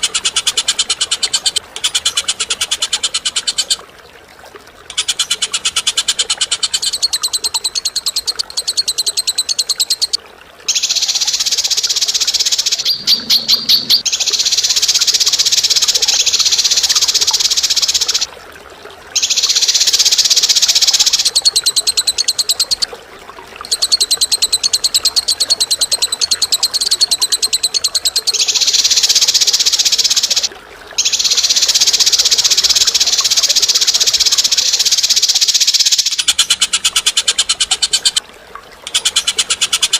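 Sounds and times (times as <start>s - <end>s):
bird chattering trills: 0.0s - 3.8s, 4.9s - 18.3s, 19.2s - 22.9s, 23.7s - 38.2s, 38.8s - 39.9s.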